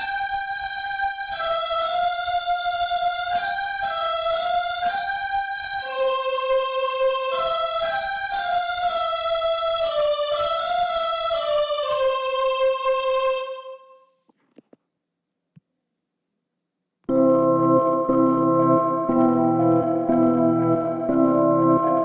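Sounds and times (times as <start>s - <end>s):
music with held notes: 0.0s - 13.8s, 17.1s - 22.0s.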